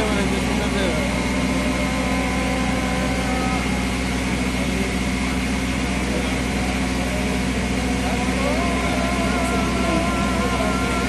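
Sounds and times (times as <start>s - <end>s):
motor boat engine droning: 0.0s - 11.0s.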